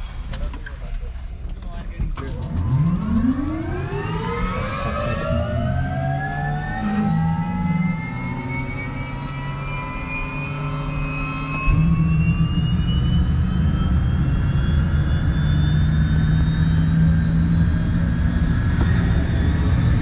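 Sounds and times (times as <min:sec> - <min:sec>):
low helicopter rotor noise: 0:01.8 - 0:20.0
helicopter turbine whining: 0:02.1 - 0:20.0.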